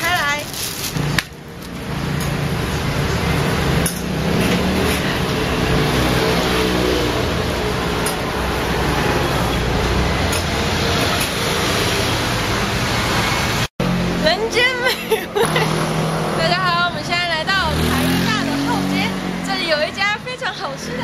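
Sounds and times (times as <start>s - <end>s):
traffic noise: 0.0s - 21.0s
vehicle engine: 0.0s - 21.0s.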